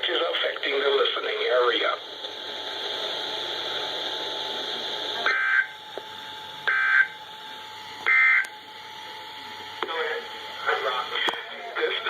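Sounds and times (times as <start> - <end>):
radio hiss: 0.0 - 7.4, 8.0 - 12.0.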